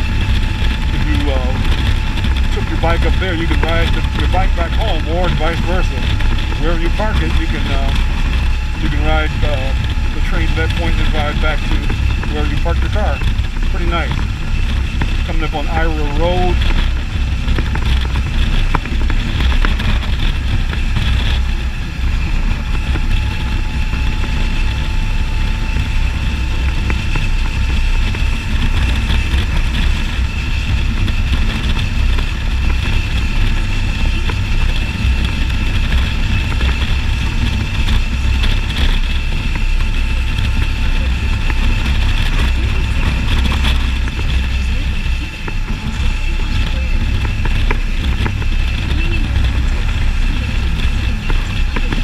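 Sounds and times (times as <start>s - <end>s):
motorcycle engine running: 0.0s - 52.0s
wind on microphone: 0.0s - 52.0s.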